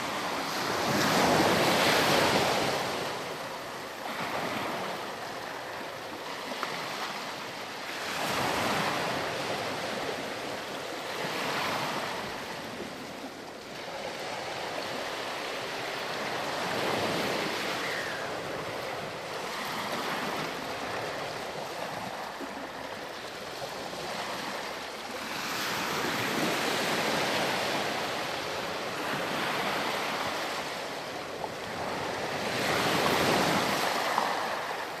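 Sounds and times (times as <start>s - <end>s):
ocean waves breaking on beach: 0.0s - 35.0s.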